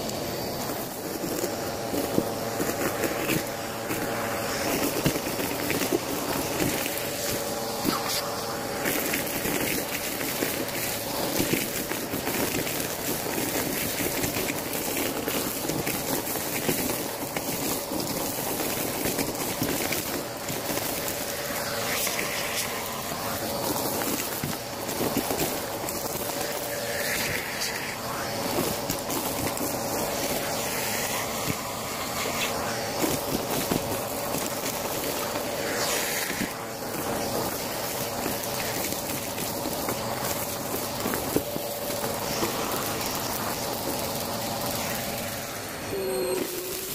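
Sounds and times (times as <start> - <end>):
small pieces rattling in hose: 0.0 - 46.9
vacuum cleaner suction: 0.0 - 46.9.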